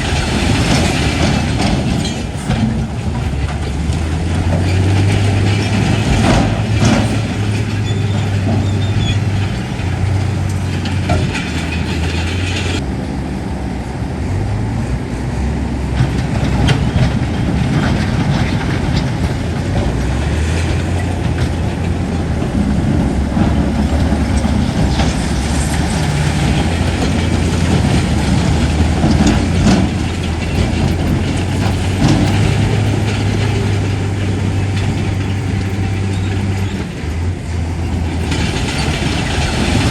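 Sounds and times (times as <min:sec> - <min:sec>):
steel tracks clanking: 0:00.0 - 0:13.0, 0:15.8 - 0:39.9
bulldozer diesel engine running: 0:00.0 - 0:39.9.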